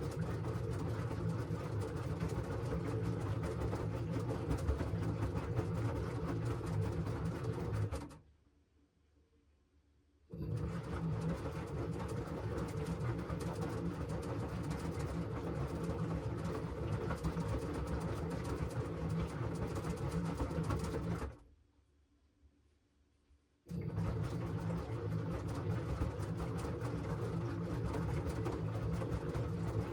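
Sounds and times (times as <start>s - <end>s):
washing machine motor hum: 0.0s - 8.2s, 10.3s - 21.4s, 23.7s - 29.9s.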